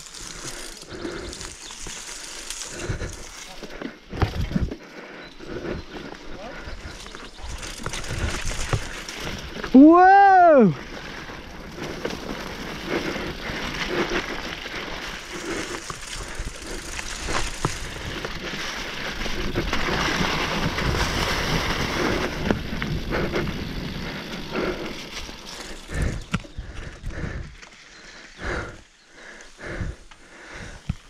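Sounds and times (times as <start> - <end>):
bike rattling and knocking: 0.0 - 4.8, 5.5 - 27.7
bike tyres on leaves and dirt: 0.0 - 31.0.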